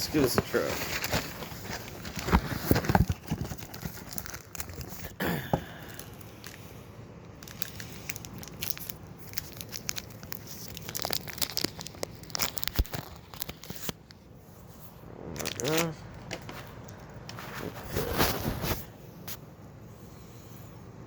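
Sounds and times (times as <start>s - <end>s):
packaging crinkling and tearing: 0.0s - 6.7s, 7.3s - 14.2s, 15.3s - 18.8s.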